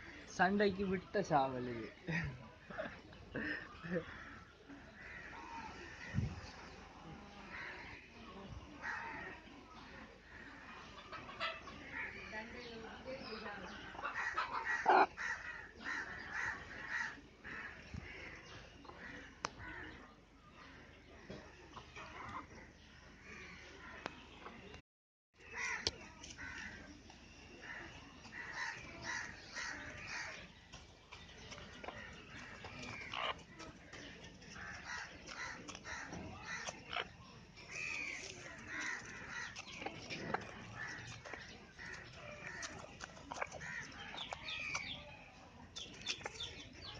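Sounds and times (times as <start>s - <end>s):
harsh bird calls: 7.4s - 24.8s, 25.4s - 46.9s.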